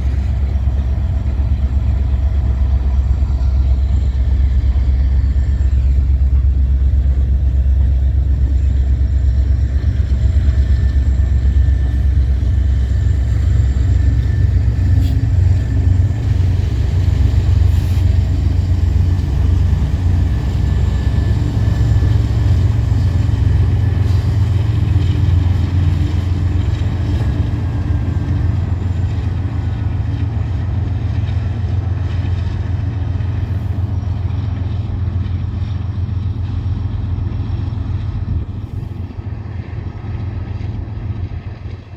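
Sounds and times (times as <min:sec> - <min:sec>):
diesel locomotives rumbling: 0:00.0 - 0:41.9.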